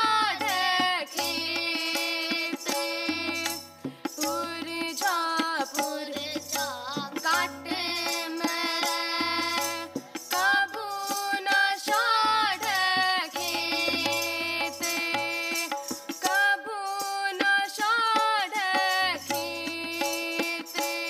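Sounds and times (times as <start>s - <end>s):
harmonium: 0.0s - 21.0s
tabla playing: 0.0s - 21.0s.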